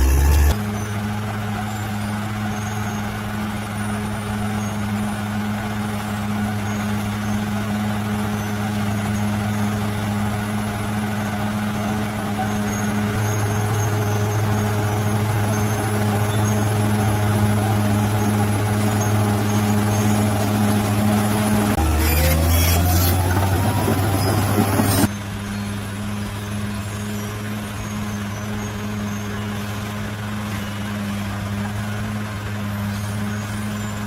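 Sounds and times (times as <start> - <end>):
bulldozer diesel engine running: 0.0 - 34.0.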